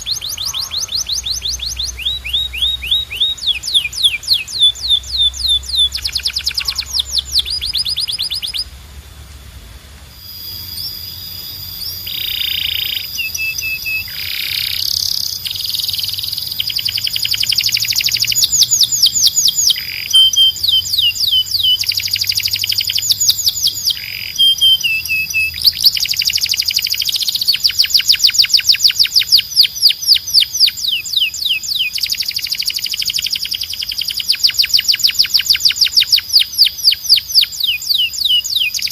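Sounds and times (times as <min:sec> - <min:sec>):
canary singing trills: 0:00.0 - 0:08.8, 0:10.1 - 0:38.9.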